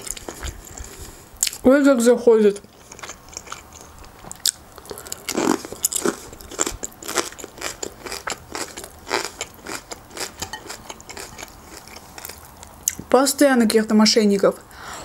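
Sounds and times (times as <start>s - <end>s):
crunchy chewing: 0.0s - 1.6s, 2.6s - 13.0s.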